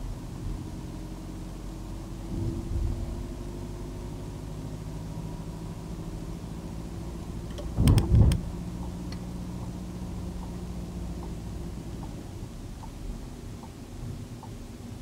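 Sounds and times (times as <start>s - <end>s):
car engine hum from inside: 0.0s - 15.0s.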